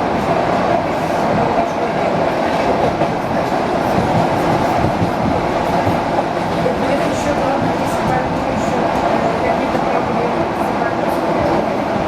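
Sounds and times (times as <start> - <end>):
train wheels on track: 0.0 - 12.0.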